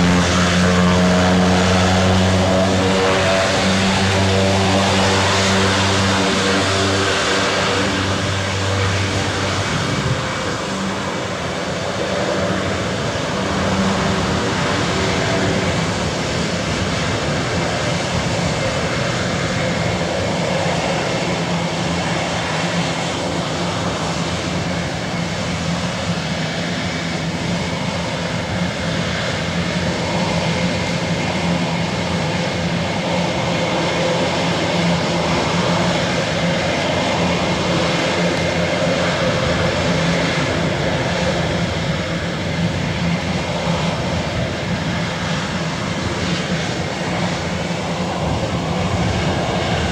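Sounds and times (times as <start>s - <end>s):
turboprop engines droning: 0.0s - 49.9s.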